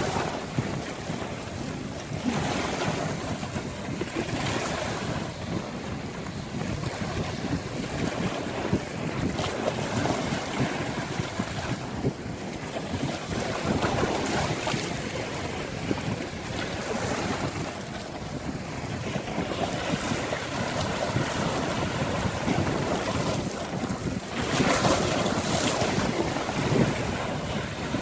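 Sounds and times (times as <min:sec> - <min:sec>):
waves breaking on shore: 0:00.0 - 0:28.0
wind on microphone: 0:00.0 - 0:28.0.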